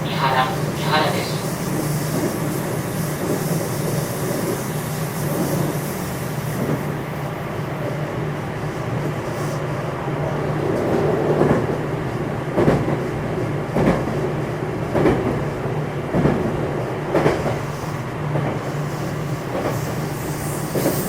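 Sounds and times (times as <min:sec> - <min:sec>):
electric train interior hum: 0:00.0 - 0:21.0.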